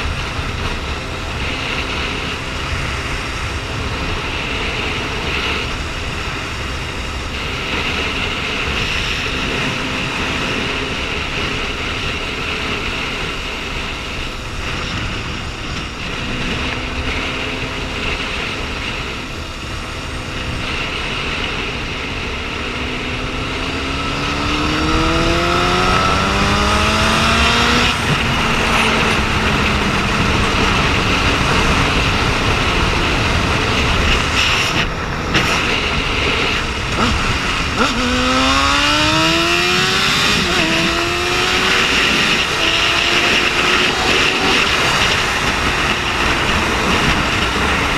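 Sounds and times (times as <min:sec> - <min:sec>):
motorcycle engine accelerating: 0:00.0 - 0:47.9
wind noise: 0:00.0 - 0:47.9.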